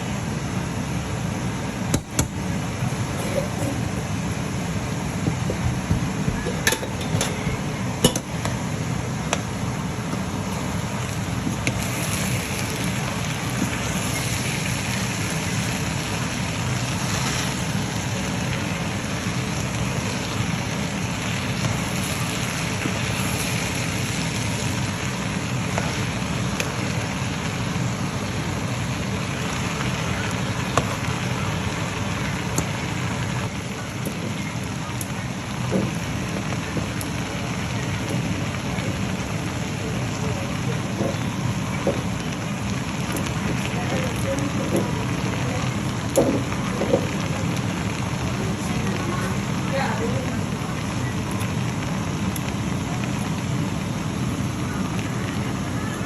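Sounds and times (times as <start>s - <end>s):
oil sizzling in a pan: 0.0s - 56.0s.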